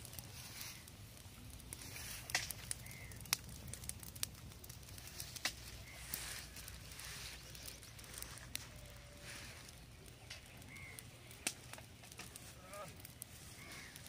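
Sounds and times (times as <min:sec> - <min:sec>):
small fire of sticks crackling: 0:00.0 - 0:14.0.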